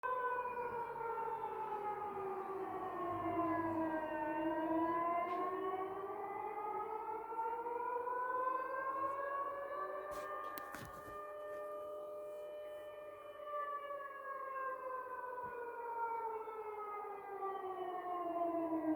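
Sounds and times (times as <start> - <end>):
air-raid siren wailing: 0.0 - 18.9.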